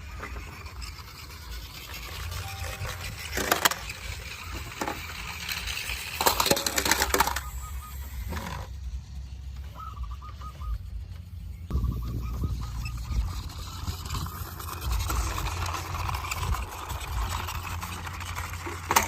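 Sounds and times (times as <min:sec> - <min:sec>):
toy cars clattering and clinking: 0:00.0 - 0:11.4, 0:13.0 - 0:19.0.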